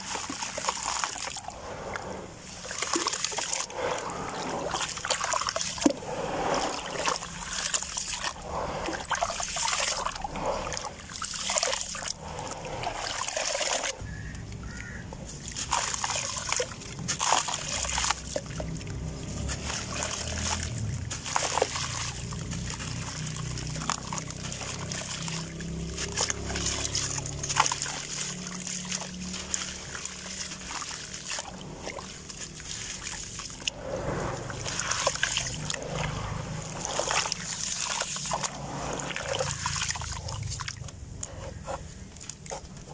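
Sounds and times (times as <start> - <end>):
gravel sand pouring into water: 0.0 - 40.8
hands splashing in muddy water: 0.0 - 42.9.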